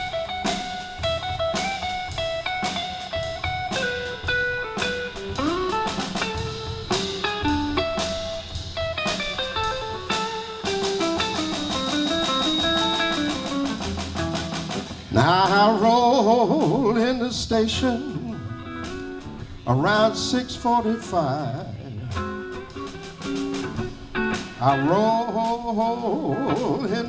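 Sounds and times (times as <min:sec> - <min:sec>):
blues guitar lead line: 0:00.0 - 0:27.0
drum kit: 0:00.0 - 0:27.0.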